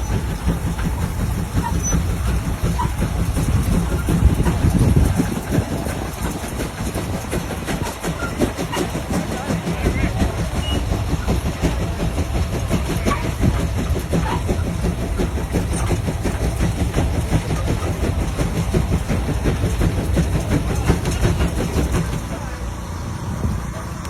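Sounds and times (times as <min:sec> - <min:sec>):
tractor engine clattering: 0:00.0 - 0:24.0.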